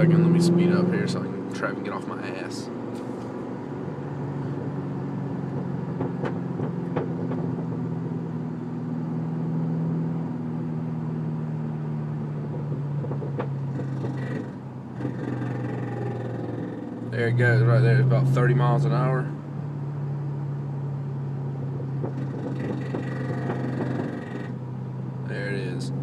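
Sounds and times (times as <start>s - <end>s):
car engine and road noise: 0.0s - 26.0s
transmission grinding: 0.0s - 26.0s.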